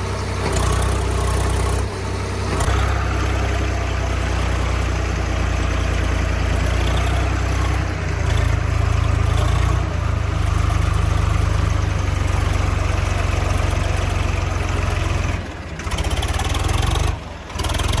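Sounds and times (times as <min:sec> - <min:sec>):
heavy vehicle engine humming: 0:00.0 - 0:18.0.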